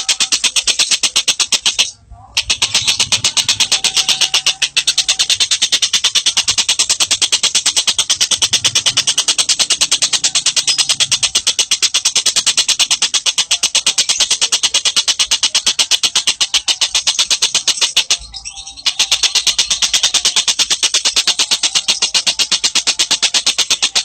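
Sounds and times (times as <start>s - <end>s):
bird rattling trill: 0.0s - 24.0s.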